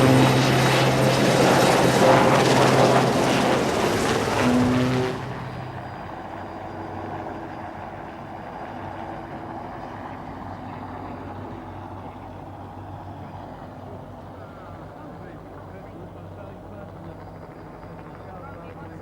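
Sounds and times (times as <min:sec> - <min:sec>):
low engine hum: 0:00.0 - 0:17.2.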